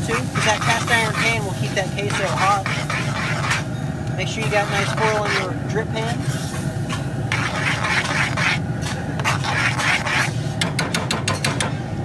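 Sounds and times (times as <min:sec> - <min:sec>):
spoon scraping cast iron pan: 0:00.0 - 0:10.6.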